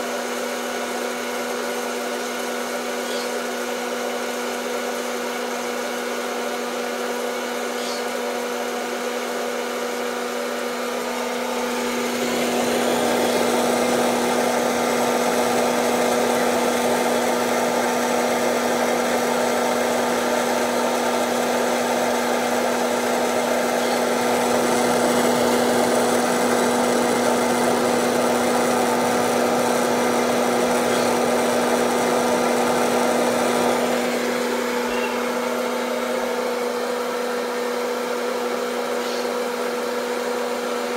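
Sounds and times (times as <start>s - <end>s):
popcorn maker fan humming: 0.0s - 40.9s.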